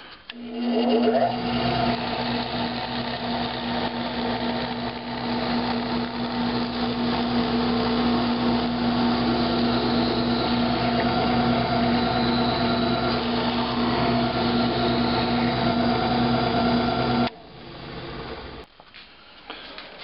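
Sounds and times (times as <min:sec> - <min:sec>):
drill press boring wood: 0:00.0 - 0:18.7.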